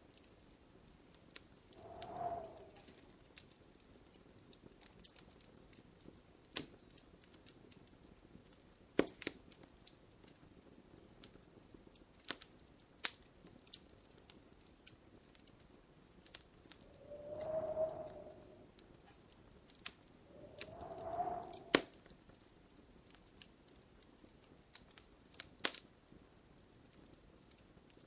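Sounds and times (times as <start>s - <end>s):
wood fire crackling: 1.1s - 28.0s.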